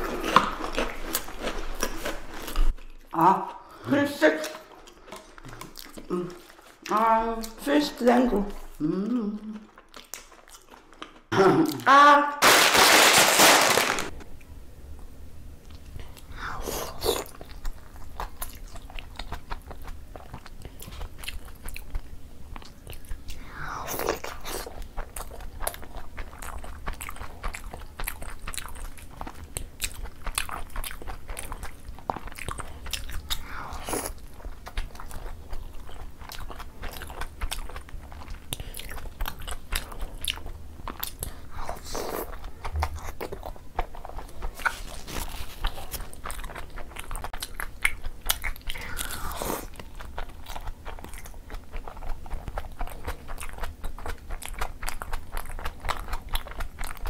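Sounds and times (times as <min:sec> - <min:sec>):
wet chewing and lip-smacking: 0:04.4 - 0:07.7, 0:08.5 - 0:11.3, 0:17.0 - 0:57.0.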